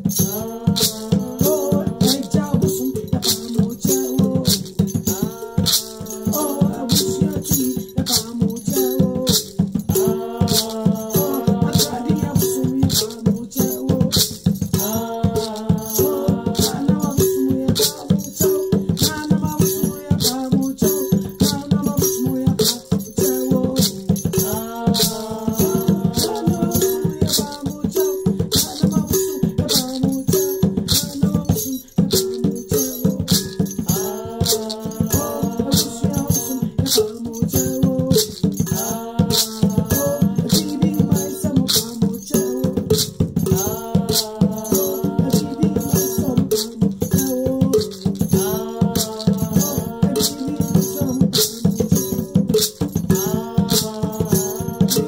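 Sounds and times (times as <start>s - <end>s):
hand rattle shaken: 0.0s - 55.0s
person singing a chant: 0.0s - 55.0s.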